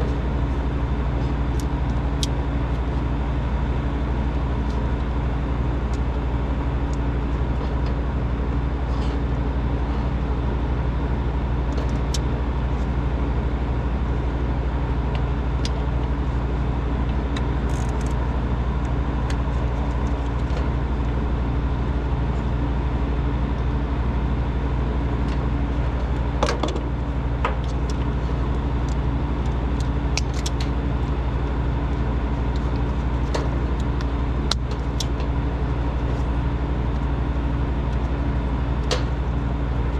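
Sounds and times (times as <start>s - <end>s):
machine humming: 0.0s - 39.9s.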